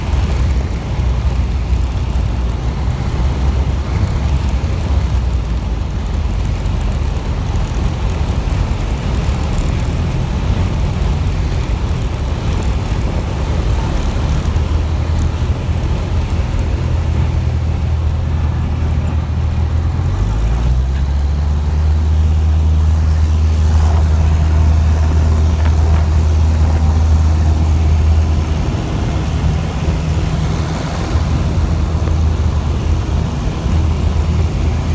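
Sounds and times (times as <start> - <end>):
aircraft engine drone: 0.0 - 34.9
wind noise: 0.0 - 34.9.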